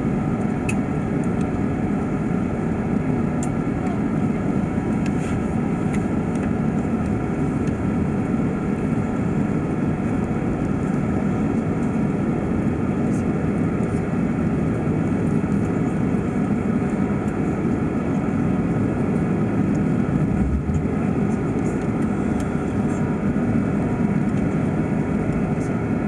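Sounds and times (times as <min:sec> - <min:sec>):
airplane cabin engine rush: 0:00.0 - 0:26.0.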